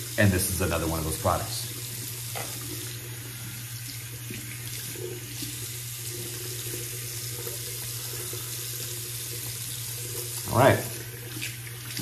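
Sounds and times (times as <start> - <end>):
face rinsing with water: 0.0 - 12.0
tap water running into sink: 0.0 - 12.0.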